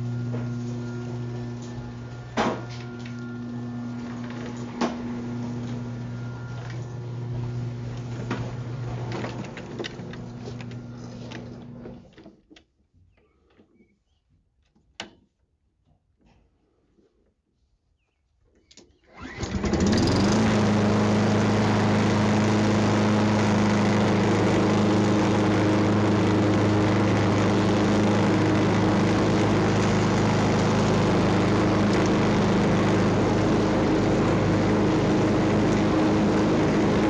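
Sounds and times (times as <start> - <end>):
lawn mower engine running: 0.0 - 12.1, 19.1 - 37.0.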